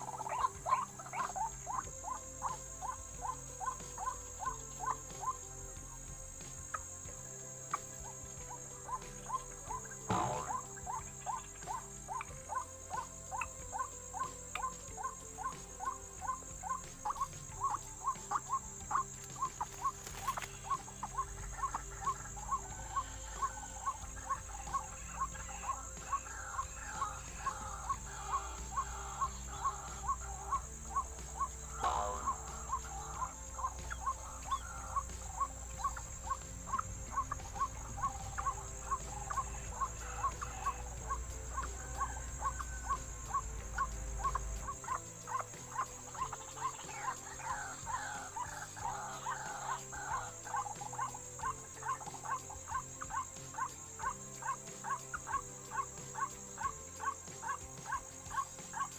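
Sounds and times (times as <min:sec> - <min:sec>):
waterhen calling: 0:00.0 - 0:05.8, 0:07.7 - 0:58.9.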